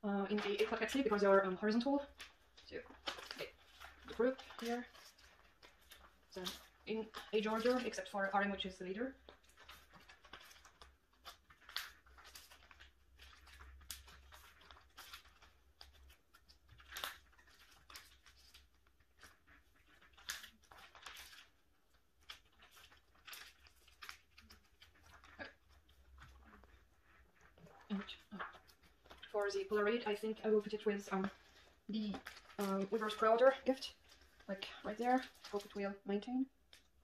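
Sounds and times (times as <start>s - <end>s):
plastic sleeves rustling and crinkling: 0.0s - 37.0s.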